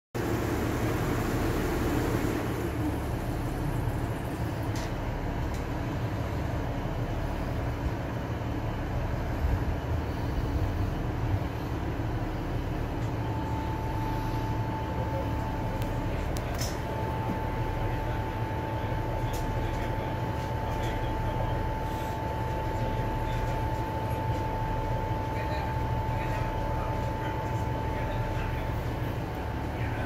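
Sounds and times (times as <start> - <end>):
diesel train engine idling: 0.2 - 30.0.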